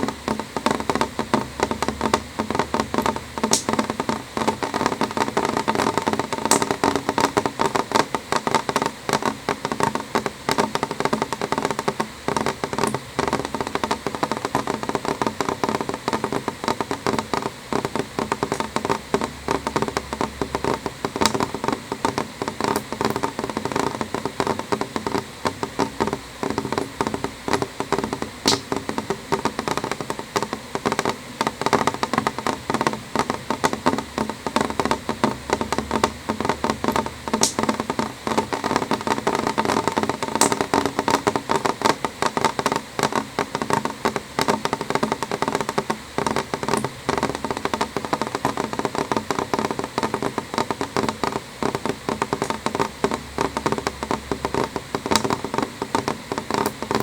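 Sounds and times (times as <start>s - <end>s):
rain tapping on window glass: 0.0s - 57.0s.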